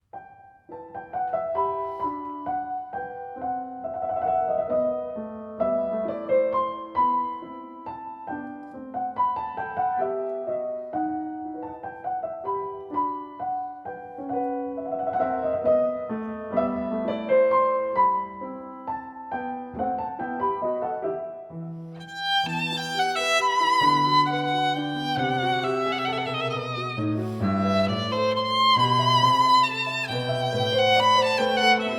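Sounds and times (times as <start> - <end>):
solo piano melody: 0.0 - 31.9.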